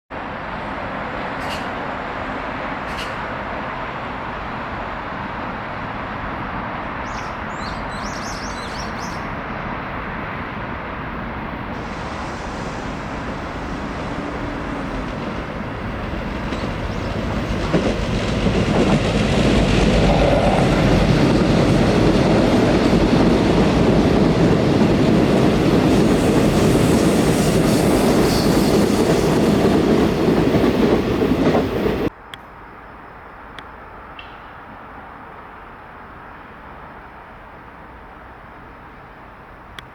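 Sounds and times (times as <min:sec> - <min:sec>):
electric train running on rails: 0:00.2 - 0:32.8.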